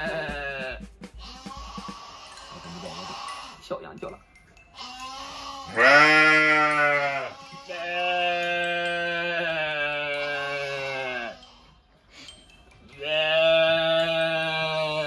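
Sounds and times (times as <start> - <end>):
animal bleating calls: 0.0 - 3.6, 4.7 - 11.7, 13.0 - 15.0.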